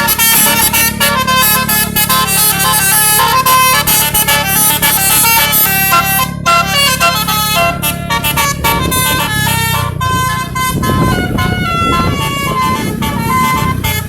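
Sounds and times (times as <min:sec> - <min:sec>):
bus engine hum: 0:00.0 - 0:14.0
multi-tone air horn melody: 0:00.0 - 0:14.0.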